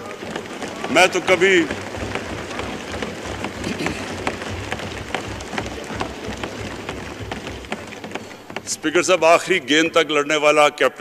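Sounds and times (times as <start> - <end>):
people thumping wooden desks: 0.0 - 10.8.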